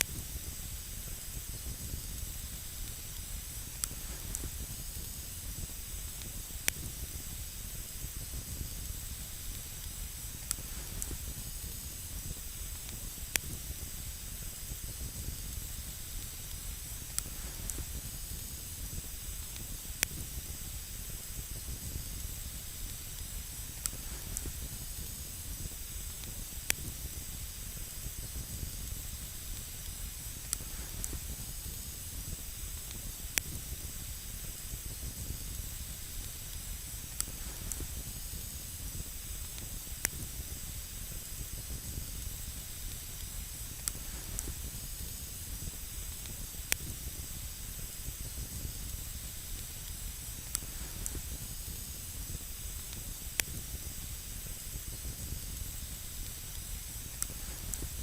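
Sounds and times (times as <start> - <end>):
campfire hissing and rumbling: 0.0 - 58.0
fire crackling pops: 0.0 - 58.0.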